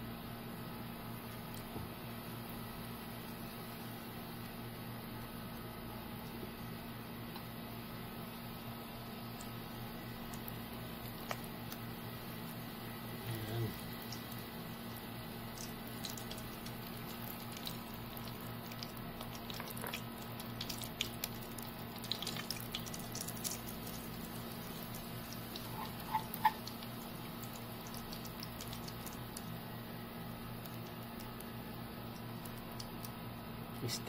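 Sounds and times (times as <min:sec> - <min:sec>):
oil sizzling and popping: 0:00.4 - 0:33.8.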